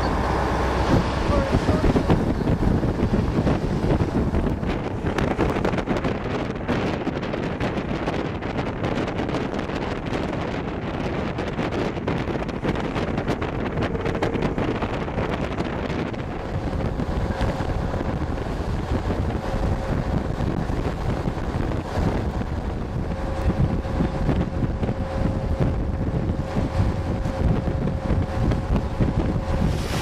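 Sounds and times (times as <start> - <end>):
water rushing: 0.0 - 6.8, 11.9 - 30.0
boat engine: 0.0 - 30.0
wind buffeting microphone: 0.0 - 30.0.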